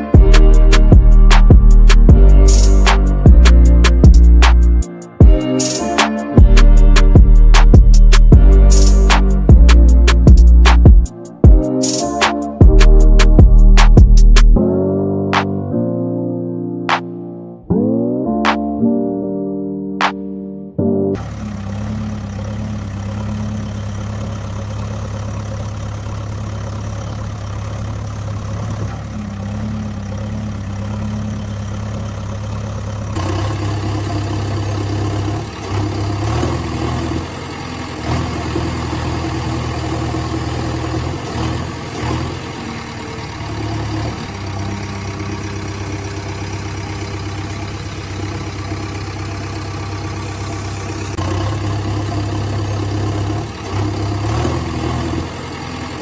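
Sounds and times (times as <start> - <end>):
engine idling hum: 0.0 - 56.0.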